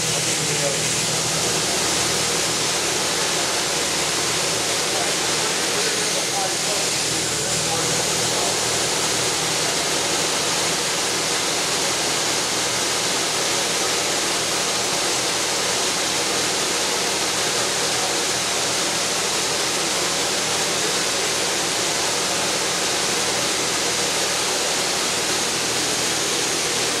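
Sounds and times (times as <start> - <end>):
pressure washer spray hissing: 0.0 - 27.0.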